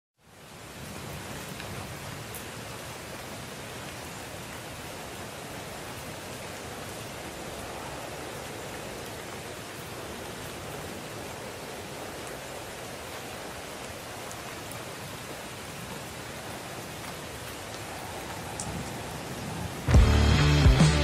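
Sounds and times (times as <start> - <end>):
rain hissing: 0.2 - 21.0.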